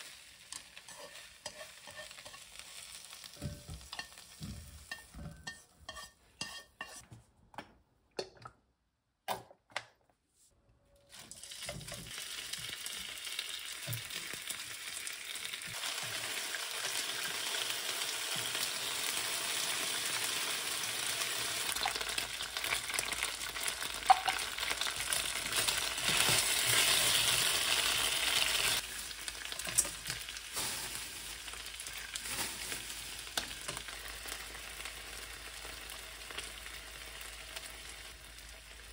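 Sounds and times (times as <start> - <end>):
pork sizzling in a wok: 0.0 - 7.0, 11.1 - 38.9.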